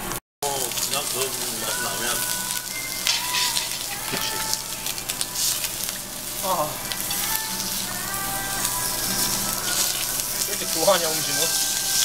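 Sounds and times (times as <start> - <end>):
fat crackling and popping: 0.4 - 7.9, 8.6 - 12.0
meat sizzling on a grill plate: 0.4 - 12.0.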